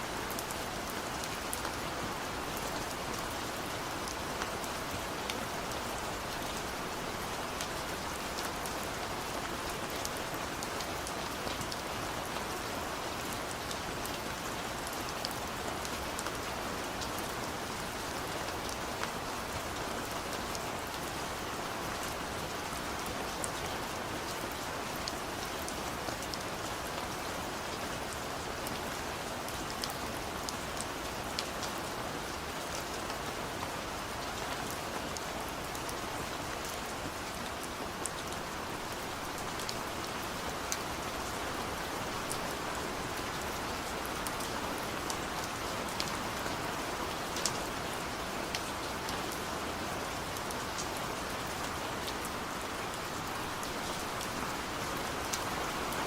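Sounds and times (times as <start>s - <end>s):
heavy rain in forest: 0.0s - 56.0s.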